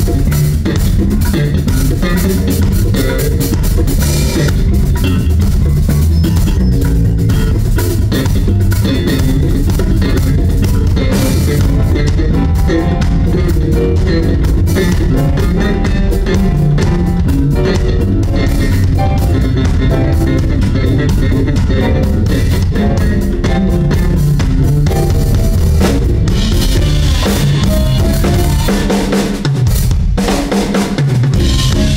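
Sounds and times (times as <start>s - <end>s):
drum kit beat: 0.0s - 31.9s
live band playing loudly: 0.0s - 31.9s.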